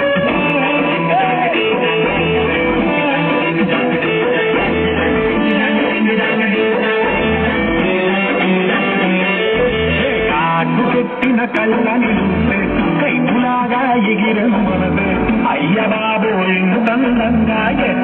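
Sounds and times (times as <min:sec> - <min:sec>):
dance music with strummed guitar: 0:00.0 - 0:18.0.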